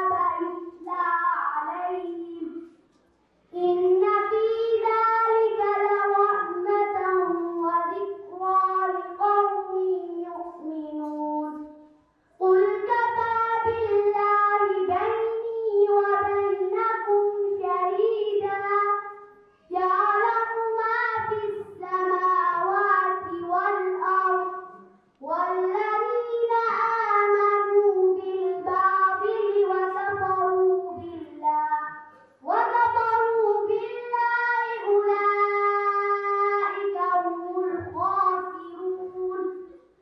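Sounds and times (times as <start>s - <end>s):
girl singing: 0.0s - 2.8s, 3.5s - 39.9s.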